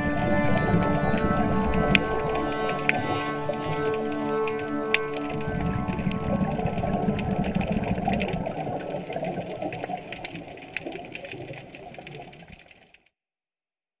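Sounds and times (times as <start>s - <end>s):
underwater rumble: 0.0s - 13.0s
underwater crackling clicks: 1.2s - 13.1s.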